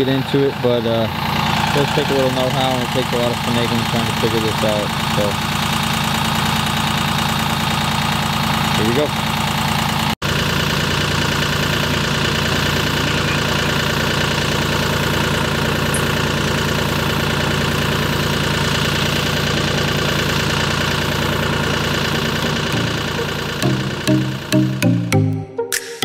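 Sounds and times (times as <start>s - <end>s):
diesel engine running steadily: 0.0s - 25.1s.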